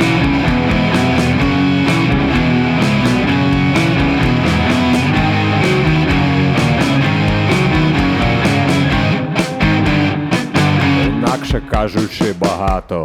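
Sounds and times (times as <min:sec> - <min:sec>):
rock guitar: 0:00.0 - 0:13.0
steady drum beat: 0:00.0 - 0:13.0.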